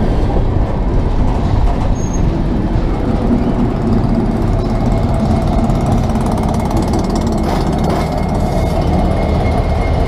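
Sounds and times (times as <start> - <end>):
locomotive engine drone: 0.0 - 10.0
train rumbling: 0.0 - 10.0.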